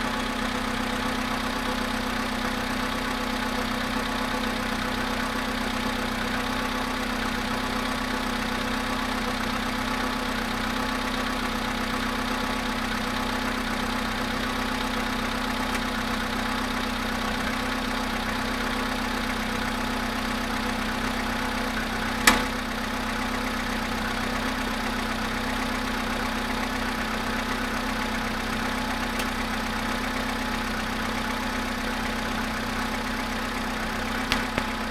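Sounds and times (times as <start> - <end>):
car engine idling with knock: 0.0 - 34.9.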